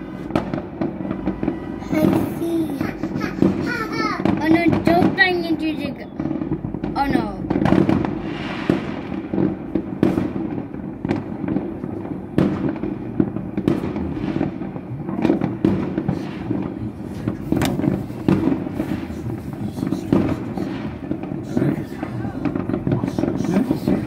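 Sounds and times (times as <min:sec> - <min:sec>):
distant fireworks bangs: 0:00.0 - 0:24.0
loud firework bangs and crackles: 0:00.0 - 0:24.0.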